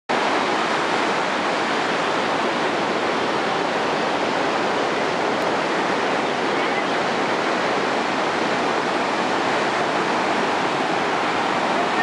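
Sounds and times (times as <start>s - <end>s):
ocean surf on beach: 0.1s - 12.0s.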